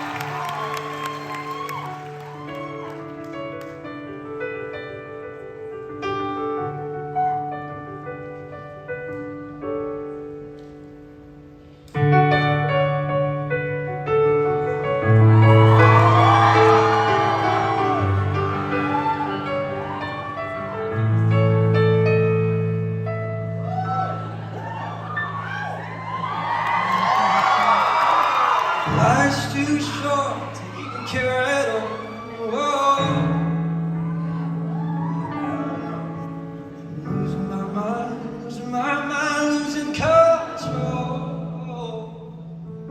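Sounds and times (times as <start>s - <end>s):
piano chords: 0.0s - 42.9s.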